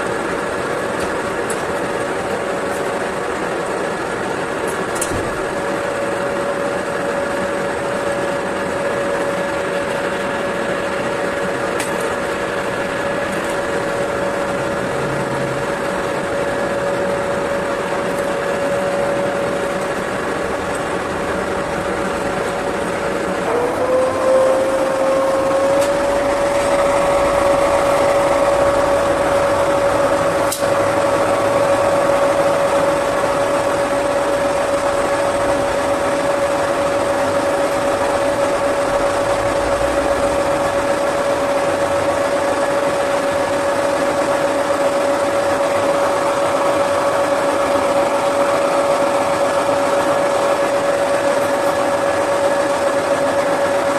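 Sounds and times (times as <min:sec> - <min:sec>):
machine shop hum: 0:00.0 - 0:53.9
metal lathe whining: 0:00.0 - 0:53.9.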